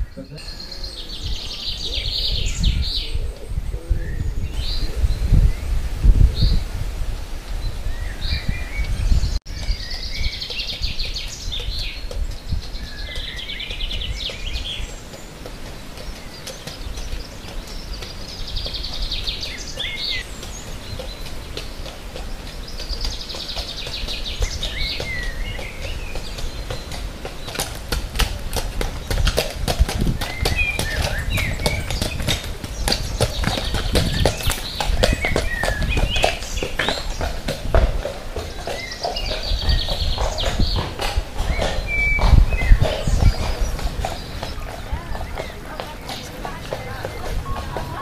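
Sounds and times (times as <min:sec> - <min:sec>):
songbirds singing: 0:00.0 - 0:06.8, 0:07.4 - 0:48.0
horse hooves on gravel: 0:09.0 - 0:48.0.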